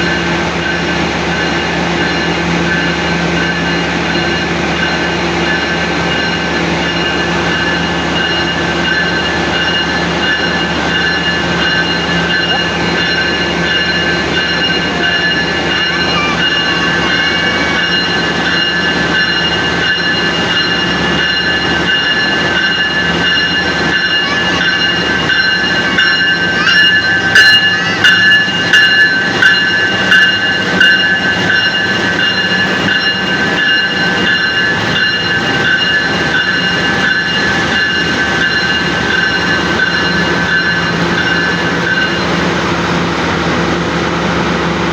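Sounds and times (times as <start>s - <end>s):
diesel locomotive engine whining: 0.0s - 44.9s.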